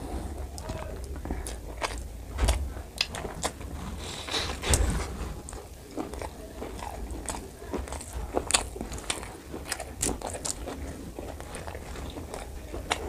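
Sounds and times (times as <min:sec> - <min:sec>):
man chewing with mouth open: 0:00.0 - 0:13.0.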